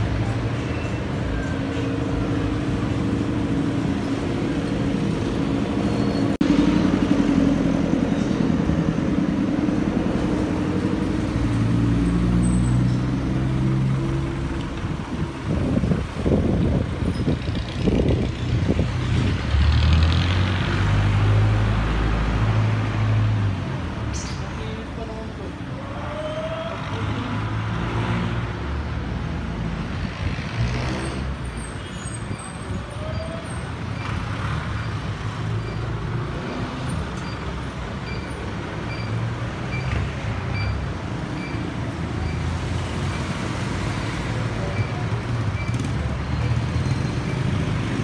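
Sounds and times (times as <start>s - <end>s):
traffic engine rumble: 0.0s - 48.0s.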